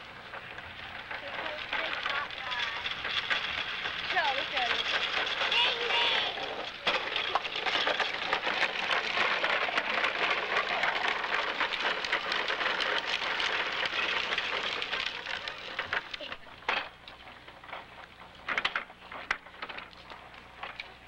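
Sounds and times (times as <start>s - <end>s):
plastic wheels rolling on concrete: 0.0s - 21.0s.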